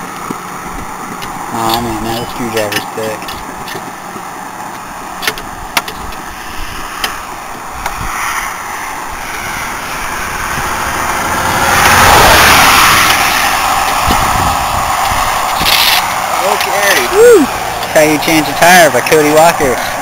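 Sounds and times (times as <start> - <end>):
vehicle passing on highway: 0.0 - 20.0.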